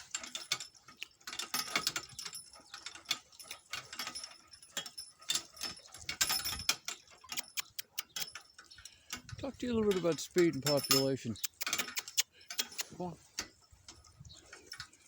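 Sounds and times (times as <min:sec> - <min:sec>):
metallic jangles of cart harness: 0:00.0 - 0:15.0.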